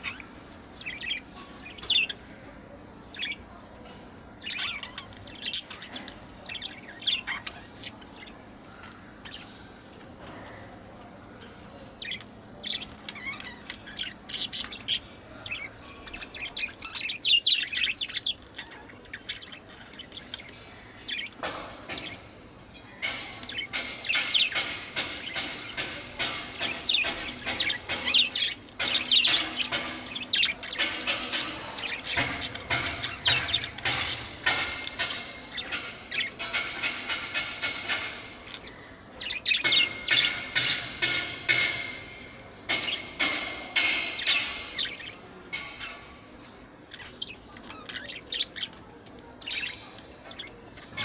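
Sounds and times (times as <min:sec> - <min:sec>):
budgerigars chirping and warbling: 0:00.0 - 0:51.0.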